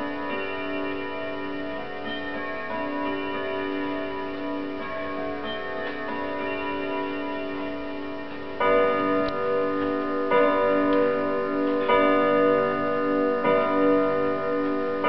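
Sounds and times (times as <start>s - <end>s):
clock chime tones: 0.0s - 15.0s
clock hour strikes: 0.0s - 15.0s.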